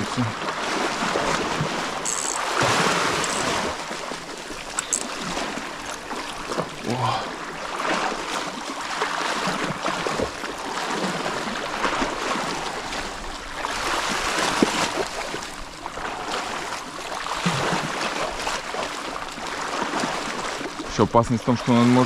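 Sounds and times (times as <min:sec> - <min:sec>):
sea water sloshing and splashing: 0:00.0 - 0:22.0.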